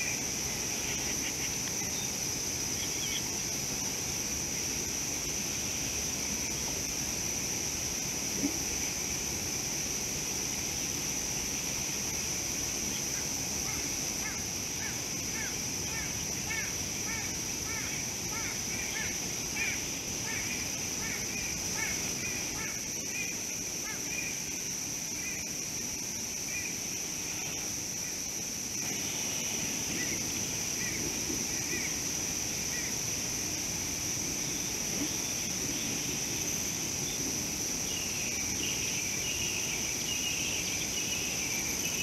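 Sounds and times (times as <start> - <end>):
steady high-pitched whine: 0.0 - 42.0.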